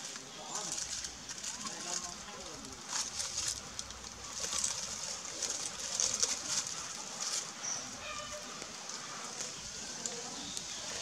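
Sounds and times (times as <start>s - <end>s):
dry leaves crackling and rustling: 0.0s - 11.0s.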